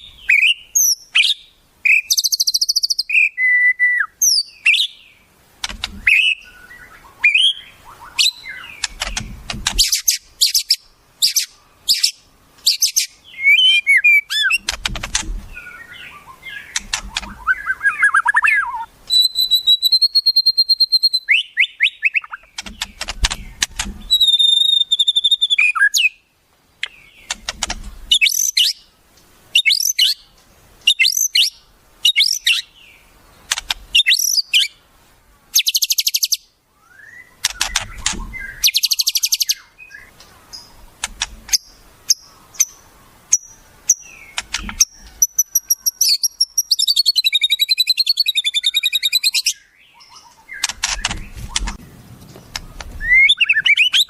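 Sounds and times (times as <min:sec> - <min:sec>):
bird song recording: 0:00.0 - 0:54.0.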